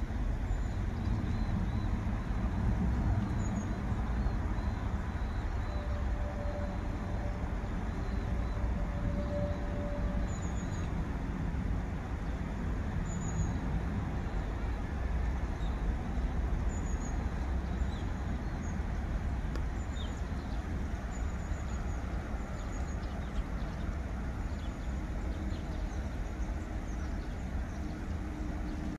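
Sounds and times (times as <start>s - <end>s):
distant road traffic rumble: 0.0s - 28.9s.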